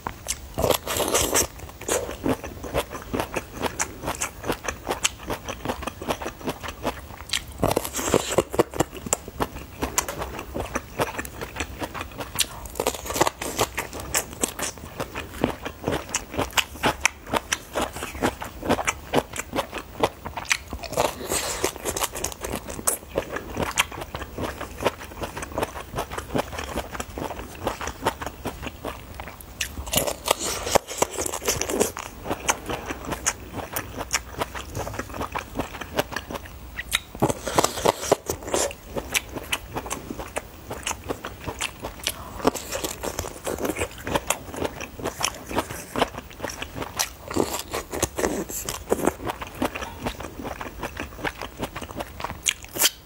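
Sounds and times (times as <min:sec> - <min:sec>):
crunching and chewing: 0:00.0 - 0:53.0.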